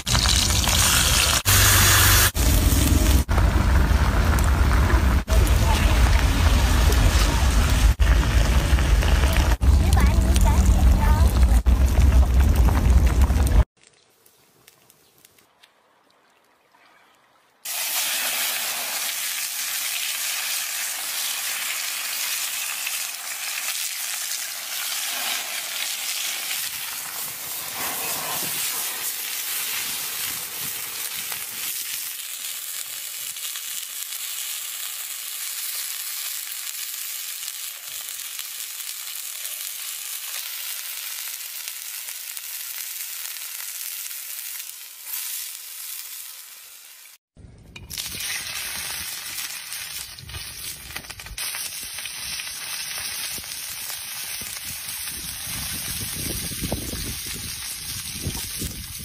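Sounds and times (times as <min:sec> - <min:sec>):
octopus sizzling on hot stone: 0:00.0 - 0:11.0, 0:17.6 - 0:47.2, 0:47.8 - 0:59.0.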